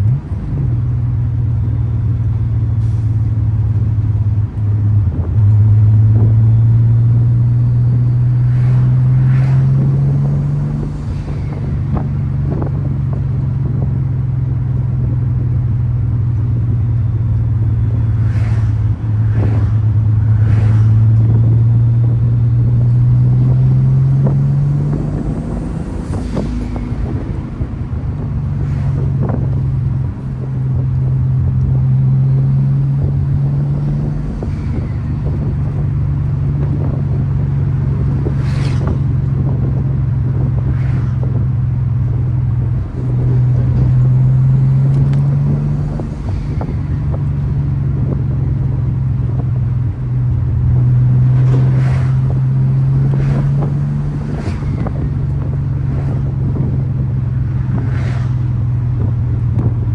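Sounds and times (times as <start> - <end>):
engine and exhaust droning: 0.0 - 59.9.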